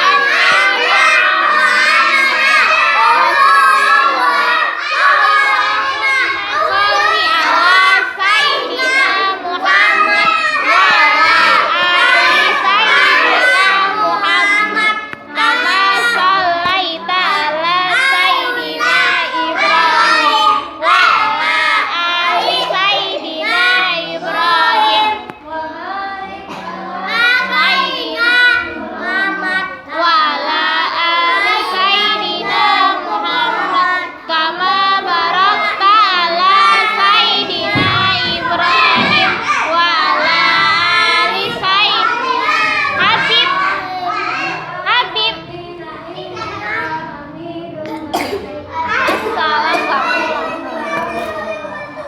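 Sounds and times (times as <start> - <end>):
children chanting a prayer: 0.0 - 52.0.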